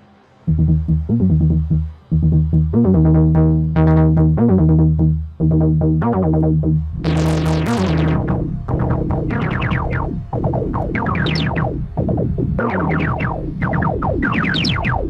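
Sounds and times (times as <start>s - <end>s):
low synthesizer drone: 0.0s - 15.0s
plucky synthesizer notes: 0.5s - 15.0s.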